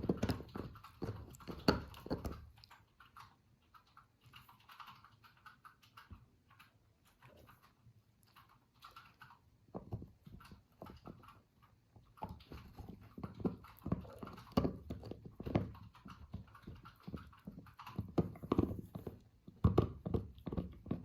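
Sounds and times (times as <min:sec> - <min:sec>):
puppy gnawing chew toy: 0:00.0 - 0:21.0.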